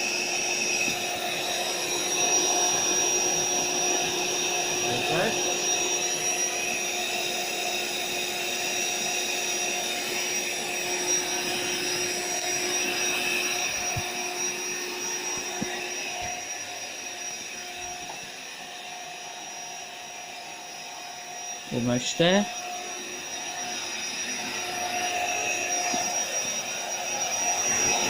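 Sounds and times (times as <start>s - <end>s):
electric air pump humming: 0.0s - 28.0s.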